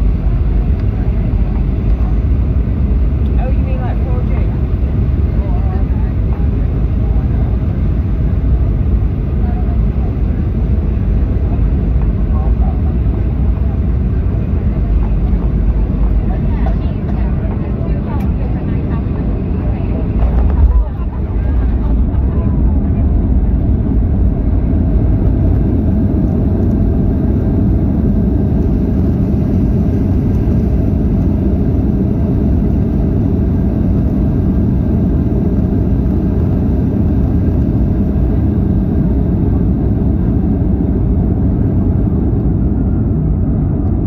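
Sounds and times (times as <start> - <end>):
airplane engine rumble in cabin: 0.0 - 44.0.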